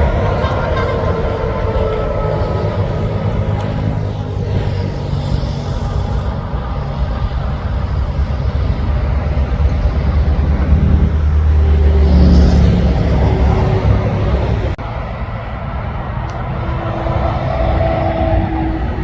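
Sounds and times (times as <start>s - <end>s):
truck engine rumbling by: 0.0s - 19.0s.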